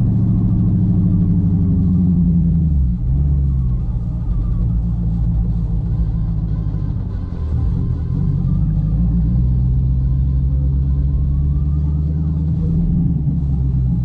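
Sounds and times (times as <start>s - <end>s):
car engine and exhaust rumbling: 0.0s - 14.0s.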